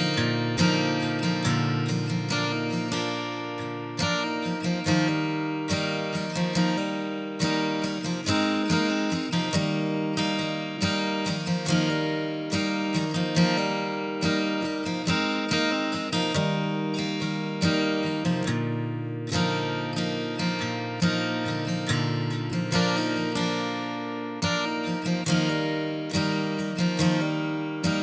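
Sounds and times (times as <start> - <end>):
acoustic guitar picking and strumming: 0.0 - 28.0.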